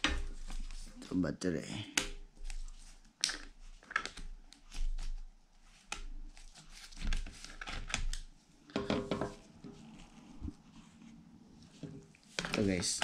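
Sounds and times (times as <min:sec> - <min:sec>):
plastic gloves rustling: 0:00.0 - 0:01.2, 0:02.2 - 0:13.0.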